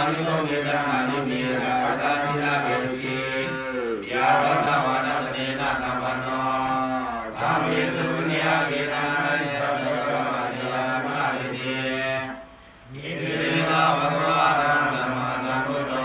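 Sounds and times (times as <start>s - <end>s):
chant-like singing: 0.0s - 16.0s.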